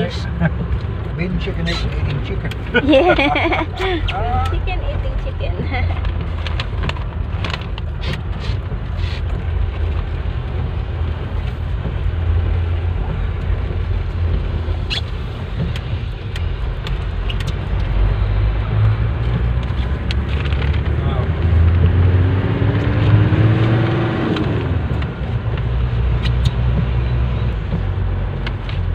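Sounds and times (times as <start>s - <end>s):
car engine rumble: 0.0s - 28.9s
road noise: 0.0s - 28.9s.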